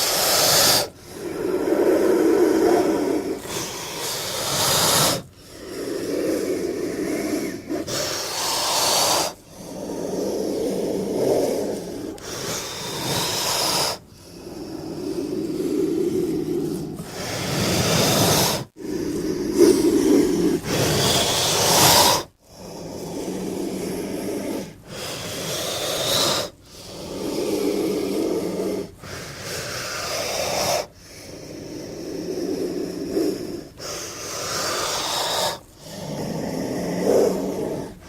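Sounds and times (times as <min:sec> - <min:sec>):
giant snake hissing: 0:00.0 - 0:38.0.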